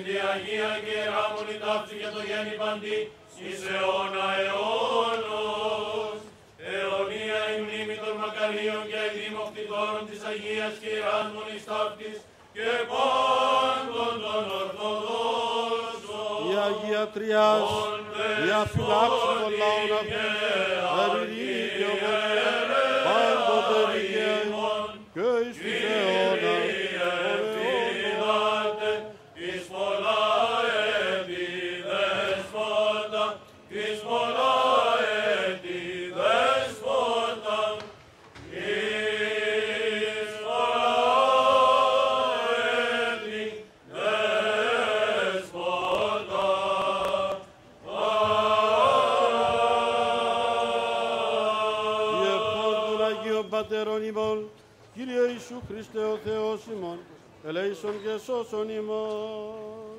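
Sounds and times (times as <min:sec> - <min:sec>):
men chanting over a held drone: 0:00.0 - 0:37.9, 0:38.6 - 0:54.3.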